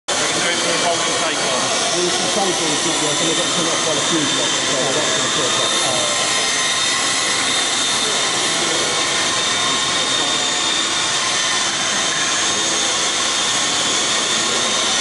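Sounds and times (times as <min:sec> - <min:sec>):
small drone rotors whirring: 0:00.1 - 0:15.0.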